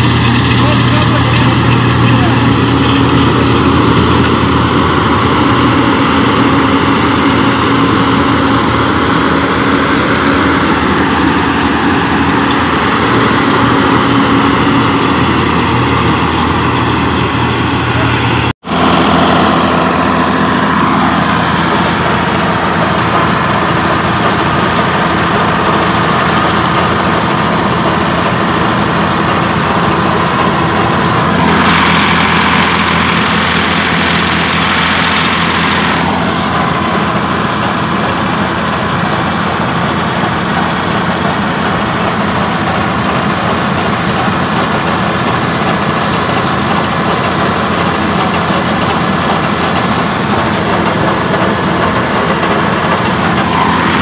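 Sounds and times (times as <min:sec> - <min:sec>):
combine harvester droning: 0:00.0 - 0:54.0.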